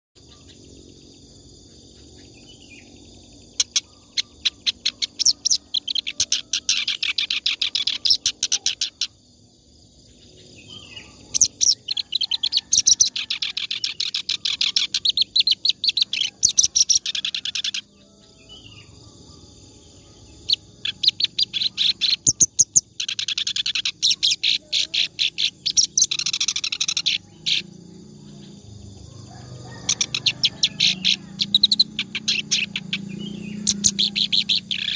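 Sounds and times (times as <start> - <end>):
reed warbler singing: 1.8 - 9.2, 10.1 - 19.4, 20.0 - 34.9.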